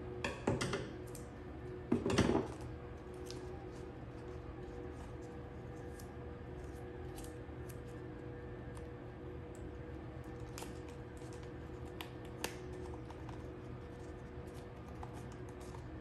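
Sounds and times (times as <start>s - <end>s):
tape and paper crackling: 2.6s - 16.0s.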